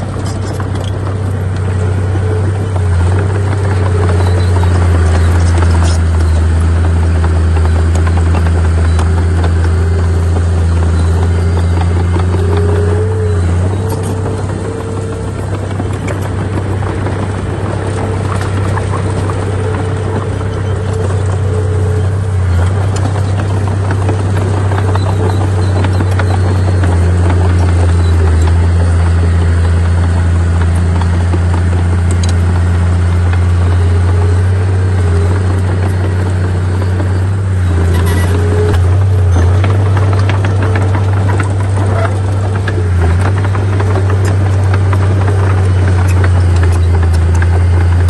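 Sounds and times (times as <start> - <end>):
diesel engine running under load: 0.0 - 48.0.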